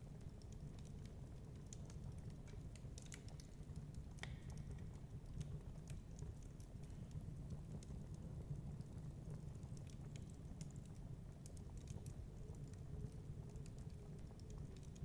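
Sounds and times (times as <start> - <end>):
low rumble of fire: 0.0 - 15.0
wood fire snaps and pops: 0.0 - 15.0.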